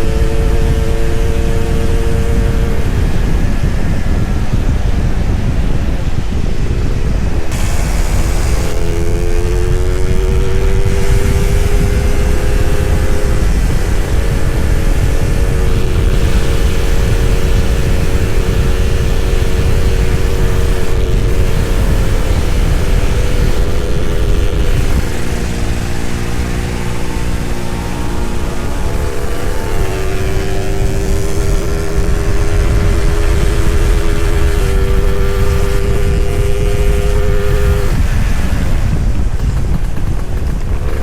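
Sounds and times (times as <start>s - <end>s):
two-stroke motorcycle engine running: 0.0s - 41.0s
wind rumble on microphone: 0.0s - 41.0s.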